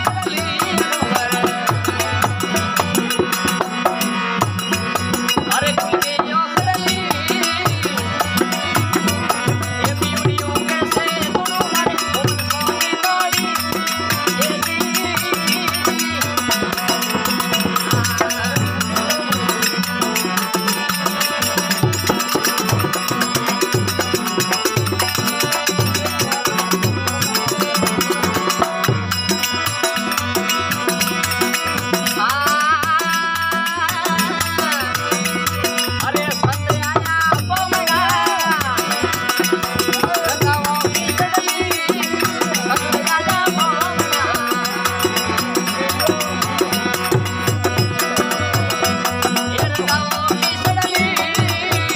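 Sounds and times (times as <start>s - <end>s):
drum and rattling percussion: 0.0s - 51.9s.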